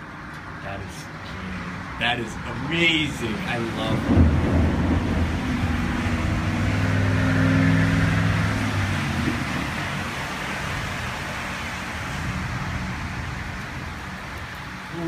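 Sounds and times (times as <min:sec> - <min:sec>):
vehicle engine hum: 0:00.0 - 0:15.0
heavy rain: 0:01.2 - 0:15.0.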